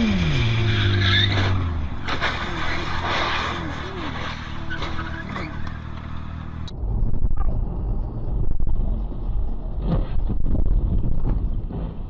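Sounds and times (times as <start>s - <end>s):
car engine hum: 0.0s - 12.0s
road and wind rumble: 0.0s - 12.0s.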